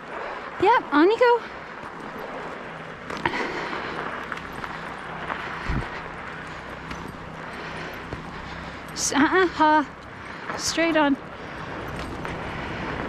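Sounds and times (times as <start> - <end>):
tyres rolling over snow: 0.0 - 13.0.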